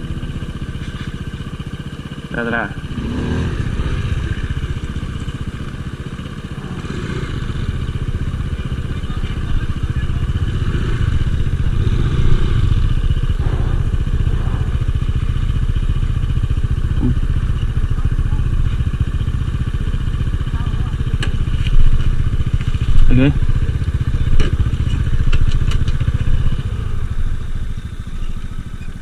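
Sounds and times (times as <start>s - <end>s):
rattling: 0.0s - 29.0s
small motorcycle engine running: 0.0s - 29.0s.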